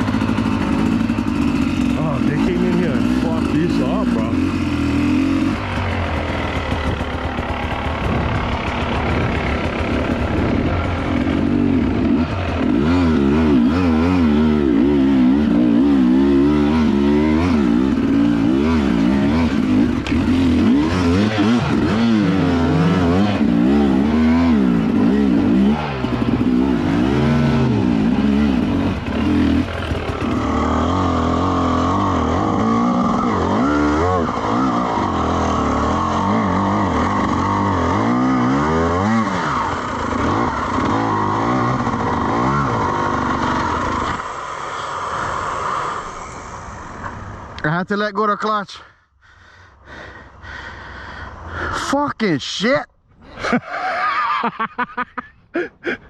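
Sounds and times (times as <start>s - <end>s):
dirt bike engine revving: 0.0s - 47.6s.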